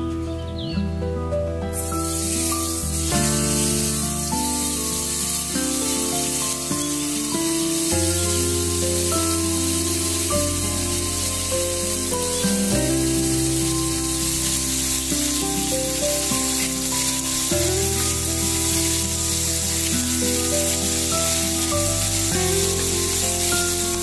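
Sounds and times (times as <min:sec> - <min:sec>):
background music of held notes: 0:00.0 - 0:24.0
meat sizzling in a frying pan: 0:01.7 - 0:24.0.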